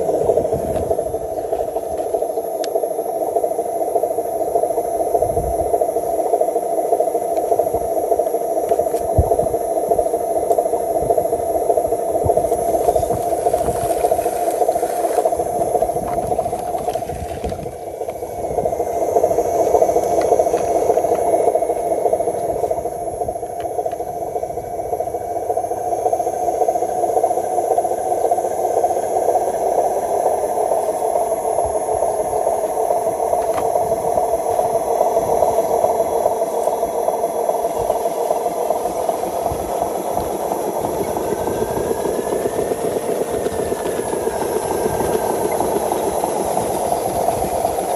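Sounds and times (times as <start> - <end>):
faint motor whine: 0.0 - 47.9.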